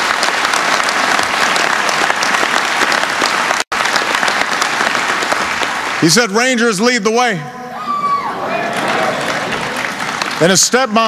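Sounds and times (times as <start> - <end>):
audience applauding: 0.0 - 7.4, 8.0 - 11.0.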